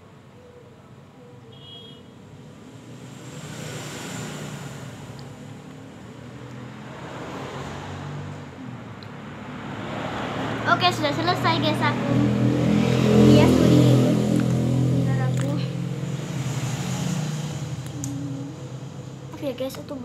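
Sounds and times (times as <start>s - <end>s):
road traffic rushing: 1.5s - 20.0s.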